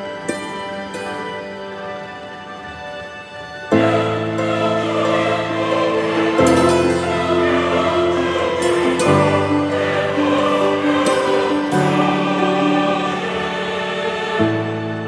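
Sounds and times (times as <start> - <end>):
choir-like vocal music: 0.0 - 15.0.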